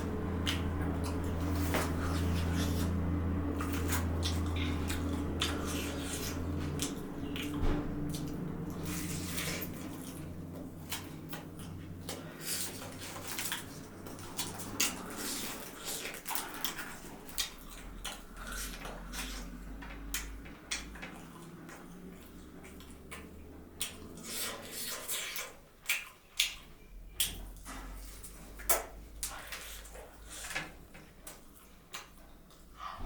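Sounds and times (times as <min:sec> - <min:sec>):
chewing and wet mouth noises: 0:00.0 - 0:33.0.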